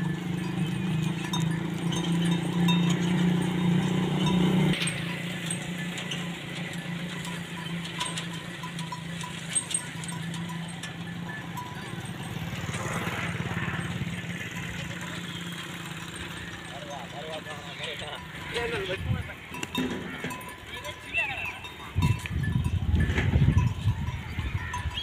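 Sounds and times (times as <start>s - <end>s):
animal bells clinking: 0.0s - 25.0s.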